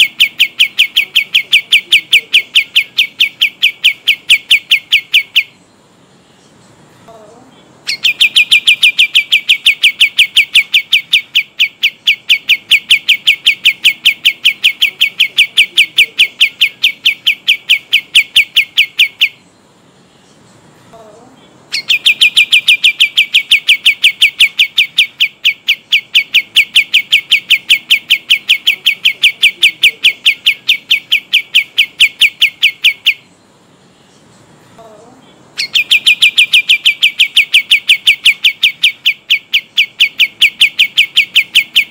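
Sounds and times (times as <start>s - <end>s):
songbird trilling: 0.0s - 41.9s.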